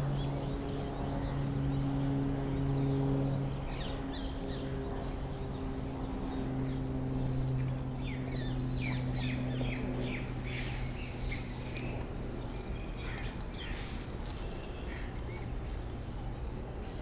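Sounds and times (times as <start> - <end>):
small birds chirping: 0.0 - 16.1
steady low hum: 0.0 - 17.0.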